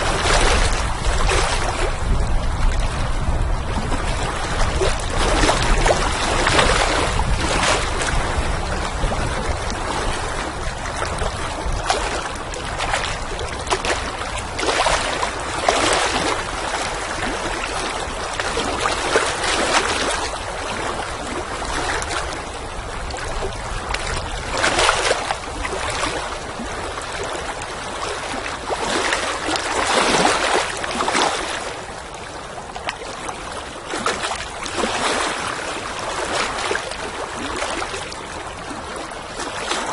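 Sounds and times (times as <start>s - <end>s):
wind rumble: 0.0s - 33.7s
water lapping and splashing: 0.0s - 39.9s.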